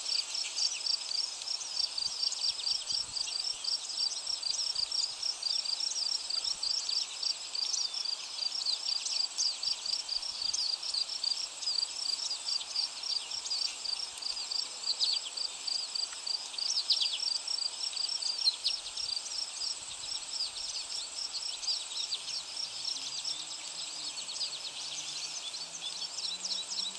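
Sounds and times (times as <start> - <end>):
high insect drone: 0.1 - 26.9.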